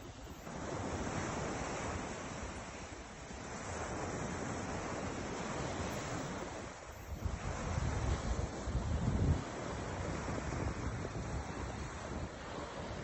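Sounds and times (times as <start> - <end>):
ocean waves washing: 0.0 - 13.0
wind rumbling on microphone: 0.0 - 13.0.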